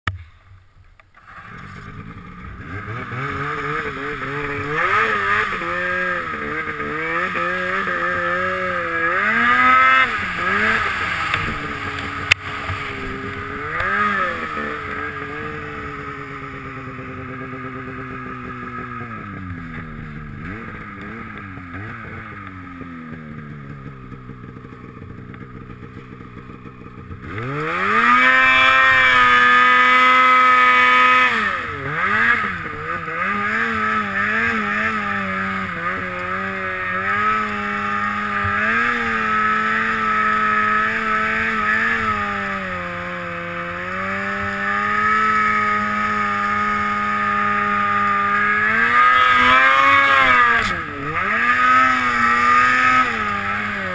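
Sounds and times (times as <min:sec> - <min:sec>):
snowmobile engine revving: 0:01.2 - 0:53.9.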